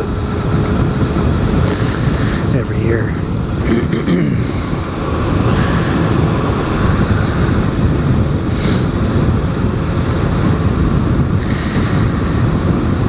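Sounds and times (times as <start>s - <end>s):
motorcycle engine: 0.0s - 13.0s
road noise: 0.0s - 13.0s
wind rush over microphone: 0.0s - 13.0s.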